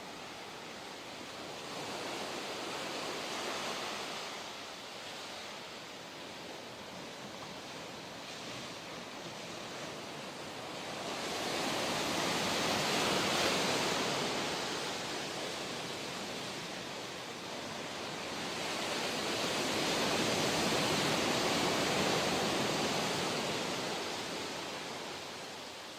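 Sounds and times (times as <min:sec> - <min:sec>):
ocean waves breaking: 0:00.0 - 0:25.5.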